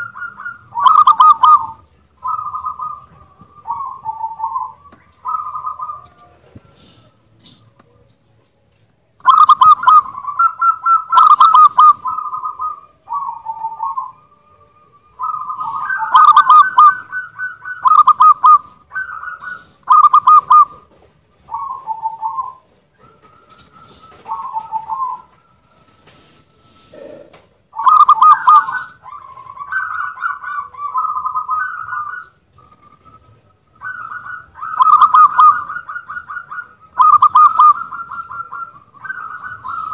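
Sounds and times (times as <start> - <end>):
dove cooing: 0.0 - 8.0, 9.2 - 14.3, 15.1 - 39.9.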